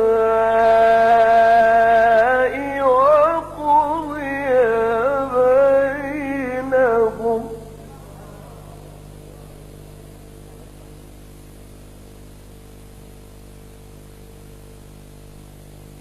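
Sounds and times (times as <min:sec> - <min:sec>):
electrical mains hum and buzz: 0:00.0 - 0:16.0.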